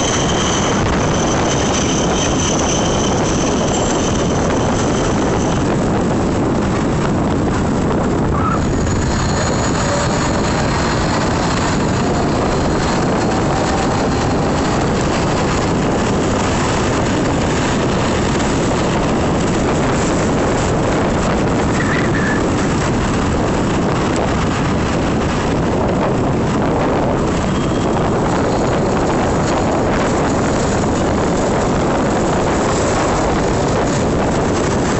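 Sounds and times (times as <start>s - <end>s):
road and traffic noise: 0.0s - 34.9s
wind buffeting the microphone: 0.0s - 34.9s.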